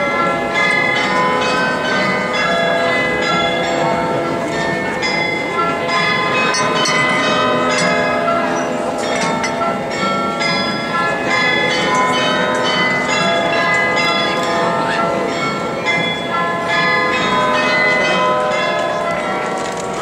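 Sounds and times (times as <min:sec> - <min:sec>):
large bells pealing: 0:00.0 - 0:20.0.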